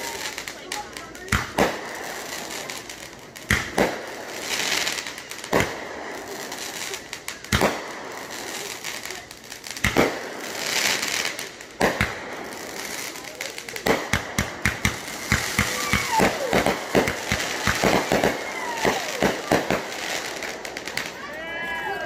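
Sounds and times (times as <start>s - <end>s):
firework hissing rush: 0.0s - 21.2s
fireworks bangs: 0.0s - 22.0s.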